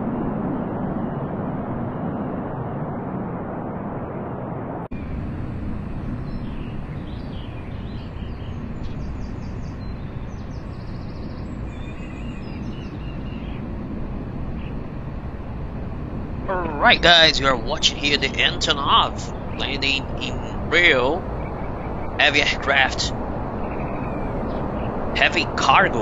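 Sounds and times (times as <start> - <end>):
jet engines rumbling: 0.0 - 26.0
birds chirping faintly: 4.9 - 26.0.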